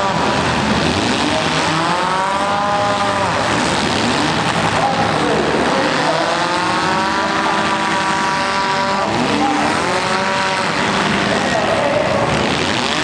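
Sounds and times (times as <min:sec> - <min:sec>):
car engines revving hard: 0:00.0 - 0:13.0.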